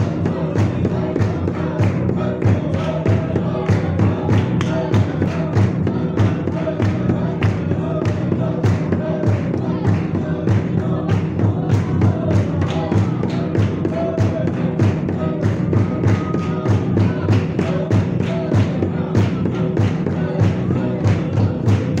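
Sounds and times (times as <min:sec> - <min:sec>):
steady drum beat: 0:00.0 - 0:22.0
worship singing: 0:00.0 - 0:22.0.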